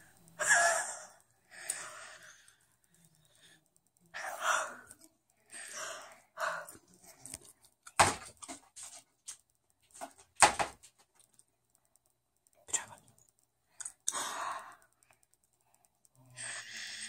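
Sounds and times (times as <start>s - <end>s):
sharp clicks: 0.0s - 17.0s.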